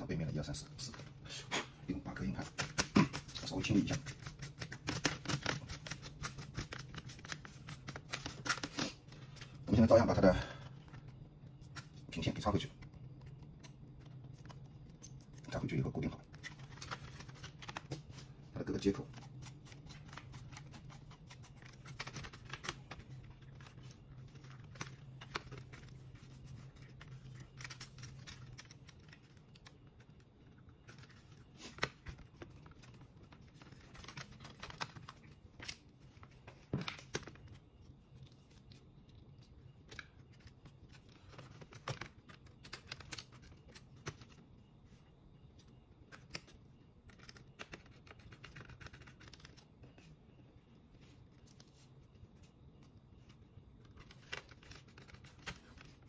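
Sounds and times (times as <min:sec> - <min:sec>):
faint low hum: 0:00.0 - 0:56.0.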